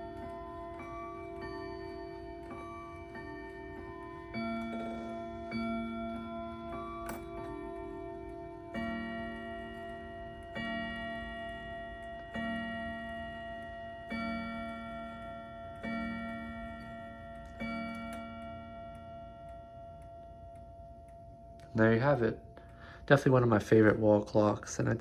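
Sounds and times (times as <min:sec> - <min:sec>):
clock striking: 0:00.0 - 0:22.5
pendulum clock ticking: 0:00.0 - 0:25.0.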